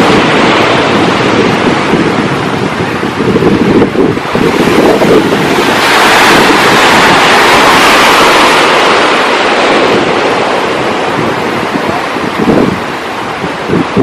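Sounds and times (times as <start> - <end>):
ocean wave breaking: 0.0 - 14.0
wind buffeting microphone: 0.0 - 14.0.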